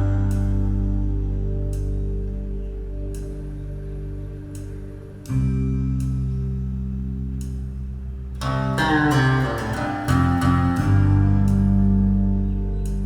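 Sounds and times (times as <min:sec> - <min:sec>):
plucked guitar over bass: 0:00.0 - 0:03.2, 0:05.4 - 0:13.0.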